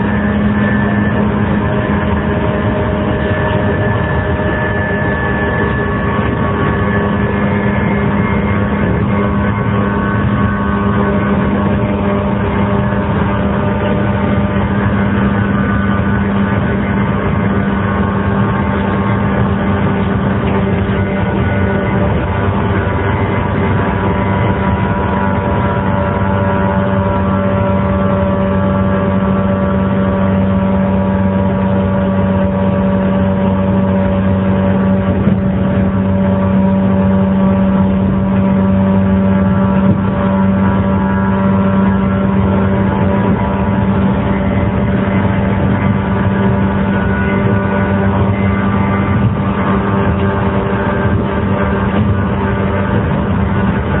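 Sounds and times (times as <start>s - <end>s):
wheel-on-rail rumble: 0.0s - 54.0s.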